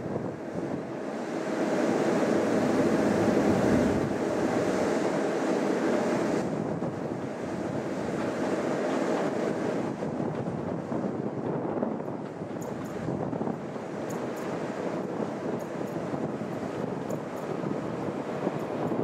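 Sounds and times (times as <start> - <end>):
train wheels rumbling on rails: 0.0 - 19.0
wind noise on microphone: 0.0 - 19.0.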